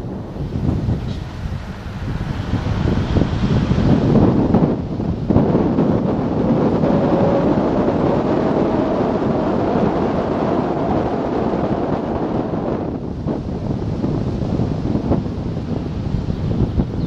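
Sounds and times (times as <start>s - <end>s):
car engine and road noise: 0.0s - 17.0s
wind buffeting microphone: 0.0s - 17.0s.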